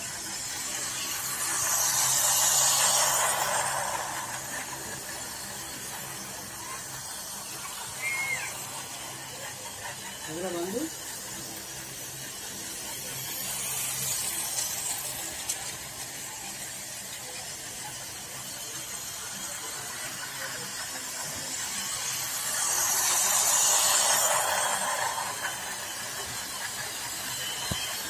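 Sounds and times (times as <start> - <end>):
toy train whirring on track: 0.0 - 28.0.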